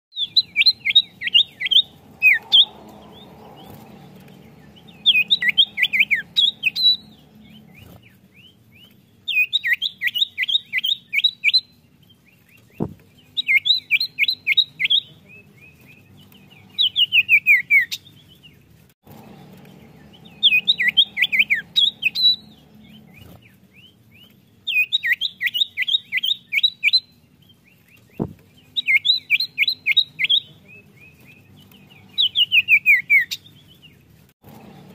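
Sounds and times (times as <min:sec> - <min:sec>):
bird chattering song: 0:00.1 - 0:18.5, 0:19.1 - 0:34.0.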